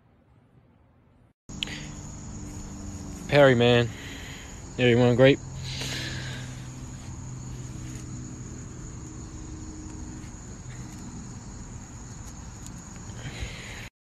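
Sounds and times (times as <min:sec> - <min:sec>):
high insect trill: 0:01.5 - 0:13.9.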